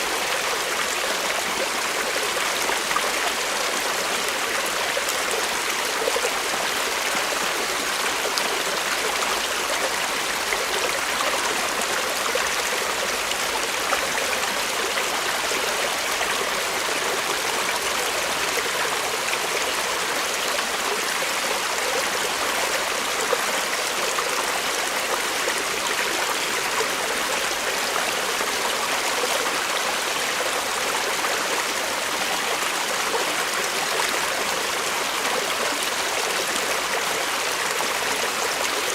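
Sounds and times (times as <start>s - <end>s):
creek babbling over stones: 0.0s - 38.9s.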